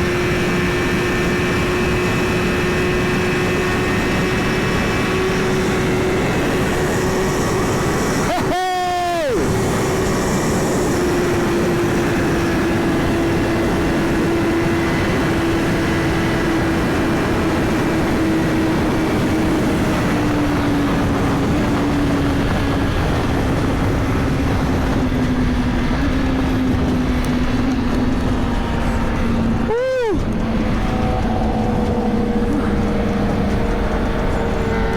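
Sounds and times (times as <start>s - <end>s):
motorcycle engine running: 0.0s - 34.9s
wind rush: 0.0s - 34.9s.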